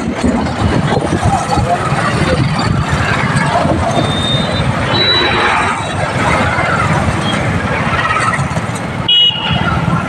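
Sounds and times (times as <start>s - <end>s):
road noise: 0.0s - 10.0s
truck engine: 0.0s - 10.0s
wind buffeting microphone: 0.0s - 10.0s.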